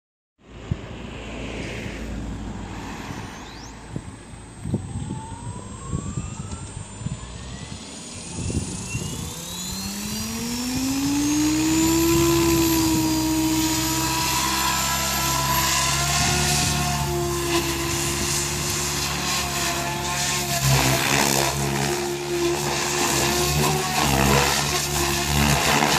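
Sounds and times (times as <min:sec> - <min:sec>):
electric helicopter motor whine: 0:02.6 - 0:25.9.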